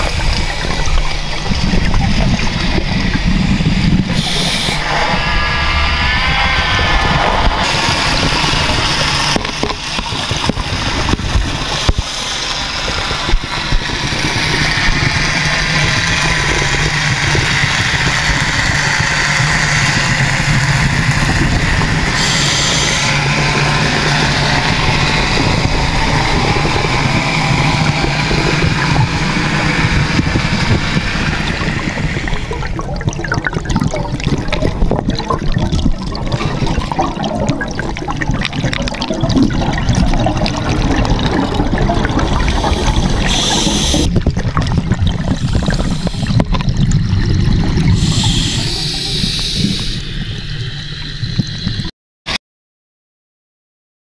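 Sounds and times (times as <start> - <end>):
steady low hum: 0.0 - 51.9
underwater rushing and bubbling water: 0.0 - 51.9.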